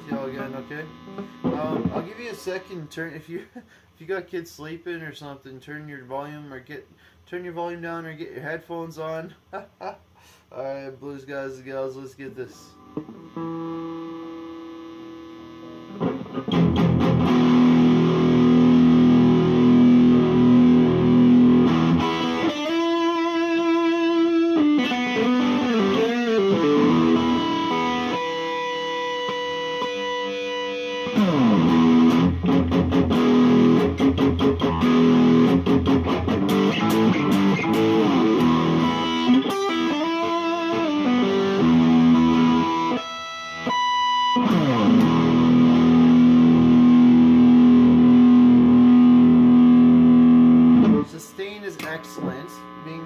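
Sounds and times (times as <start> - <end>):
electric guitar riff: 0.0 - 3.4, 12.6 - 53.0.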